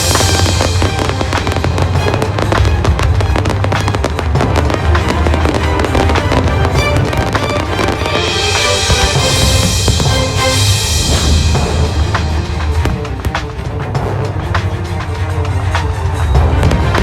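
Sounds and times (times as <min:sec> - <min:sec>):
fireworks banging and crackling: 0:00.0 - 0:17.0
music with heavy bass: 0:00.0 - 0:17.0.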